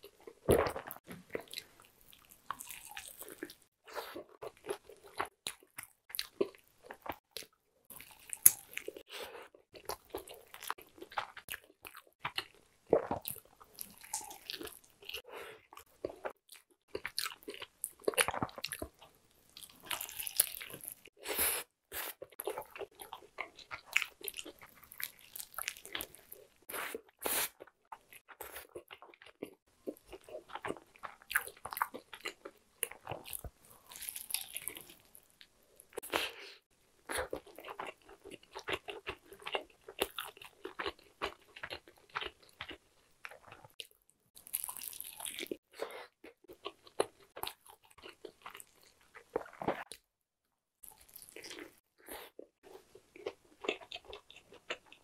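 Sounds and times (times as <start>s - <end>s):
crunching bites and chewing: 0.0s - 9.0s, 9.8s - 21.1s, 22.3s - 36.4s, 37.1s - 45.6s, 46.2s - 50.0s, 50.8s - 55.0s.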